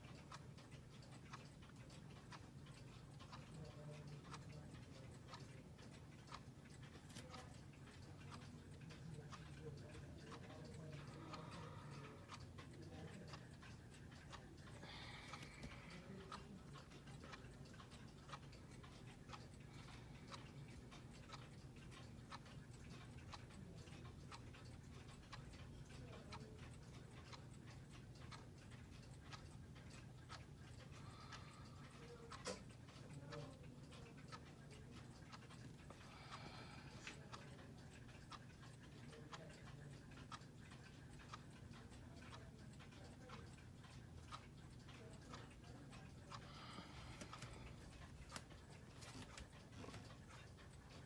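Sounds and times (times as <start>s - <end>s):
clock ticking faintly: 0.0s - 51.0s.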